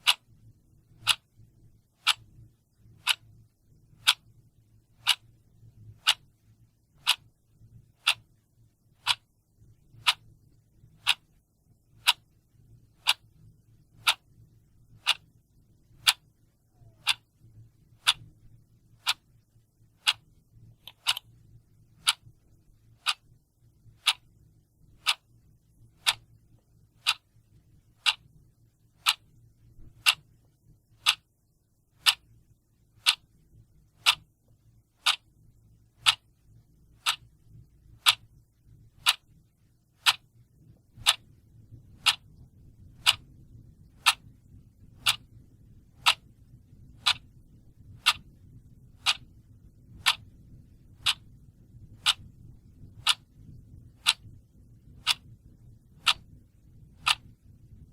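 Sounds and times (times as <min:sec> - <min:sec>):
clock ticking: 0:00.0 - 0:06.4, 0:07.0 - 0:09.3, 0:09.9 - 0:19.4, 0:20.0 - 0:31.3, 0:32.0 - 0:32.4, 0:33.0 - 0:33.3, 0:33.9 - 0:35.3, 0:36.0 - 0:39.4, 0:40.0 - 0:57.9
faint low hum: 0:00.0 - 0:57.9.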